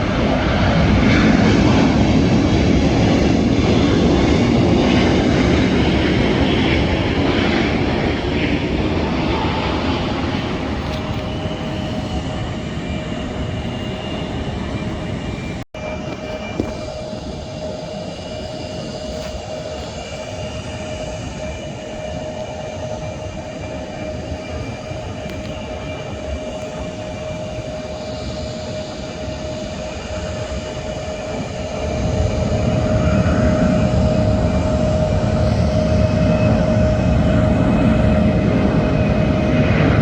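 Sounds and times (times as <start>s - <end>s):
jet engine rush and whine: 0.0s - 40.0s.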